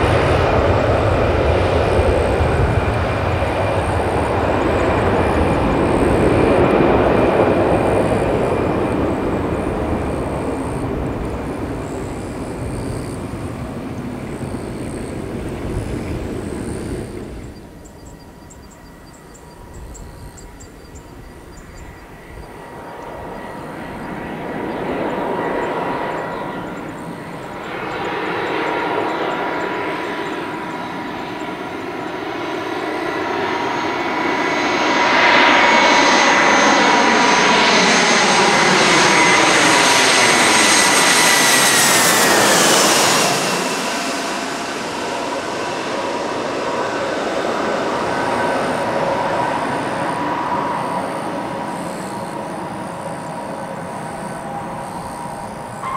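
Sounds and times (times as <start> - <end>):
jet engine whine: 0.0 - 55.9.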